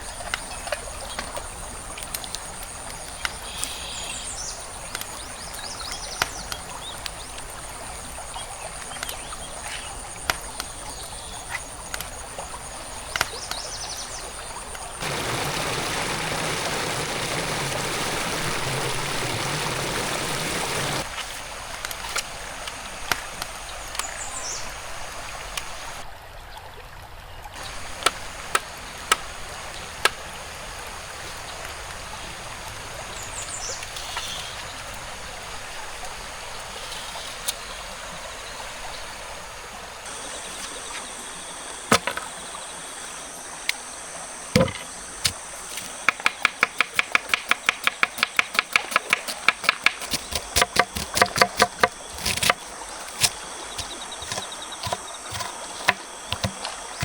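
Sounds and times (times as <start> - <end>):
forest stream rushing: 0.0 - 57.0.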